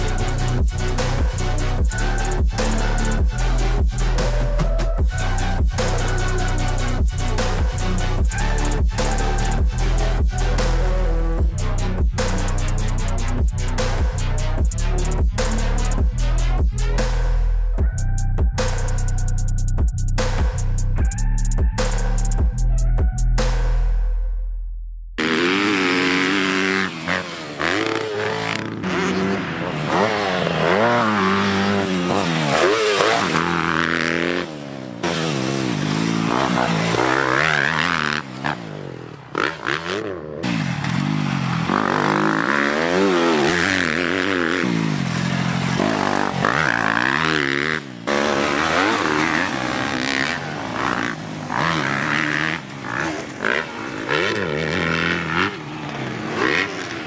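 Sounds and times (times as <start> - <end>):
dirt bike engine revving: 0.0 - 17.3, 25.2 - 57.0.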